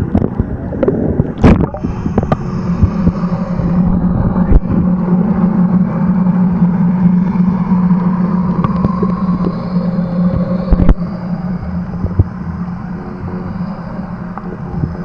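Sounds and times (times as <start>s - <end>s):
underwater engine drone: 0.0s - 15.0s.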